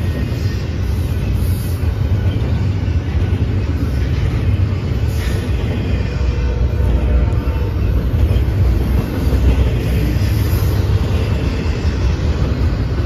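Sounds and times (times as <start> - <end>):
freight train cars rumbling past: 0.0 - 13.0.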